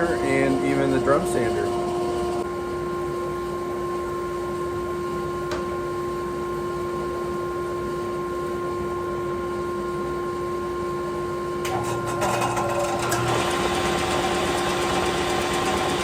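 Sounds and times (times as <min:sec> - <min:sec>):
steady two-tone hum: 0:00.0 - 0:16.0.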